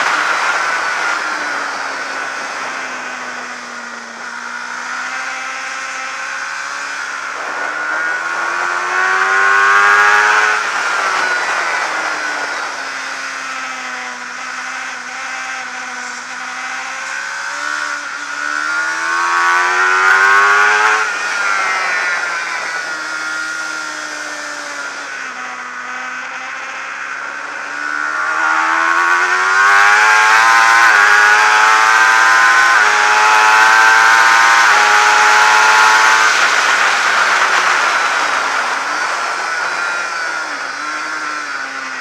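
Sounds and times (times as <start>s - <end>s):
gear changes: 0.0s - 42.0s
motorcycle engine revving: 0.0s - 42.0s.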